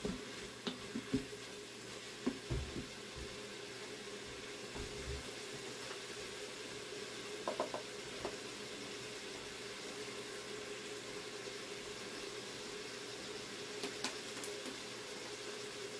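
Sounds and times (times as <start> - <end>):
onions sizzling in a pot: 0.0 - 15.9.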